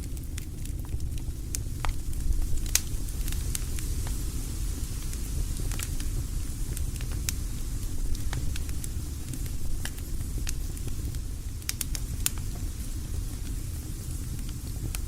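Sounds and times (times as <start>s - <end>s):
campfire pops and crackles: 0.0s - 15.0s
low steady rumble: 0.0s - 15.0s.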